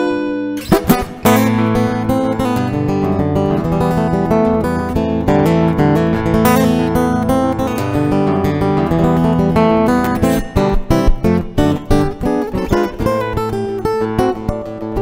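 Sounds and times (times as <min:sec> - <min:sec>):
guitar playing notes and chords: 0:00.0 - 0:15.0.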